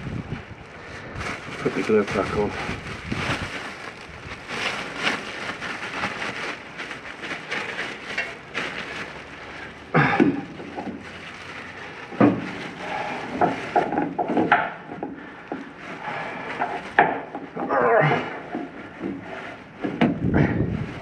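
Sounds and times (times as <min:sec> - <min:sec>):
plastic glove and apron crinkling: 0:00.0 - 0:21.0.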